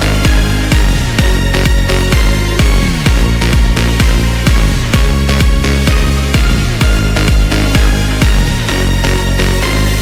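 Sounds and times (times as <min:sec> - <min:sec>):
kick drum beat: 0:00.0 - 0:09.1.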